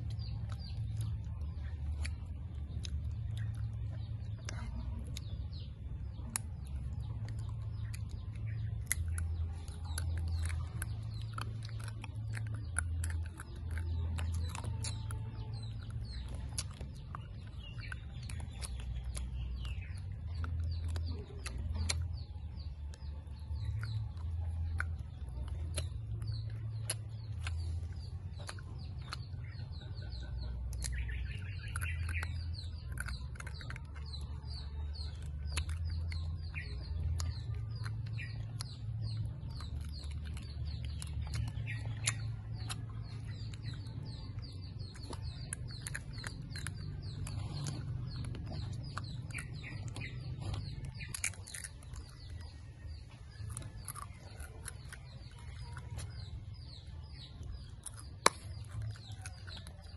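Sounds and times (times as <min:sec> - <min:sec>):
birds chirping: 0:00.0 - 0:59.9
low steady rumble: 0:00.0 - 0:59.9
person chewing: 0:00.0 - 0:59.9.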